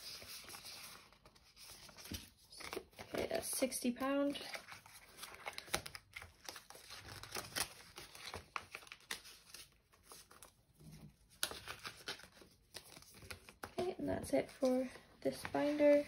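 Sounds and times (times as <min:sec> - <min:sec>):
paper envelope and banknotes rustling: 0:00.0 - 0:16.0.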